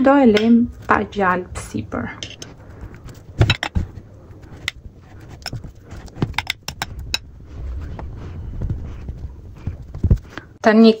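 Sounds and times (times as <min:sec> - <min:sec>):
low muffled rumble: 0:00.7 - 0:10.6.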